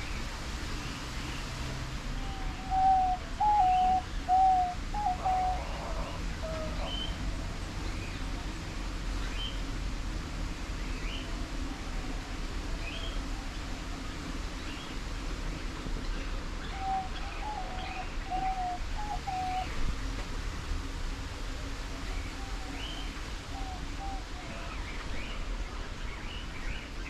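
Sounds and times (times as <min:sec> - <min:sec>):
low steady bird notes: 0:00.0 - 0:09.8, 0:10.6 - 0:20.2, 0:21.9 - 0:27.0.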